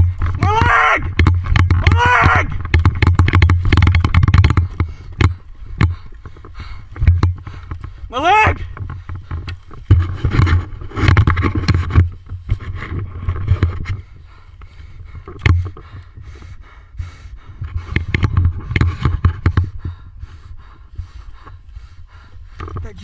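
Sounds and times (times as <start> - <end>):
low thumps and clicks: 0.0 - 23.0
rustling and scraping of gear: 0.0 - 23.0.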